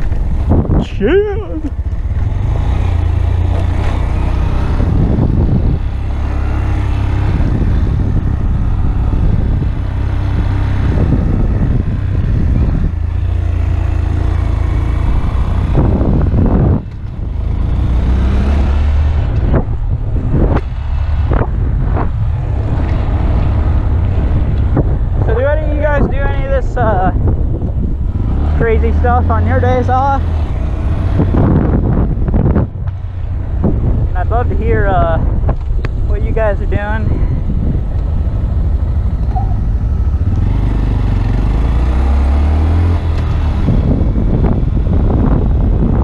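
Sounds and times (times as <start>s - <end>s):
motorcycle engine running: 0.0s - 46.0s
wind rumble on microphone: 0.0s - 46.0s.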